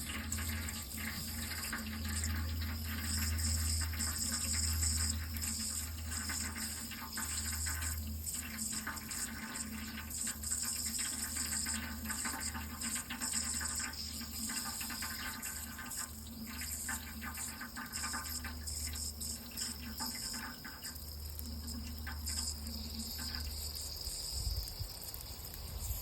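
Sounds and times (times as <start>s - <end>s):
water running steadily: 0.0s - 26.0s.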